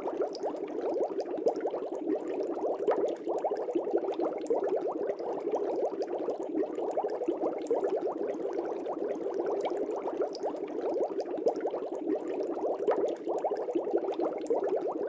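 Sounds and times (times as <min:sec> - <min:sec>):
aquarium air bubbling: 0:00.0 - 0:15.0.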